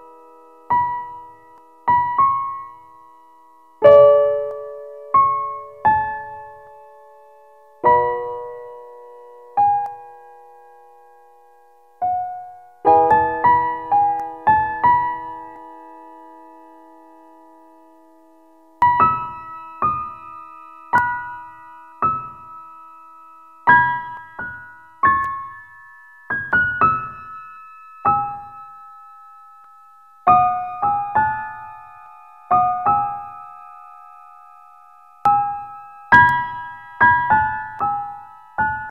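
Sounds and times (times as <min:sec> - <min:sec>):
slow piano music: 0:00.0 - 0:38.9.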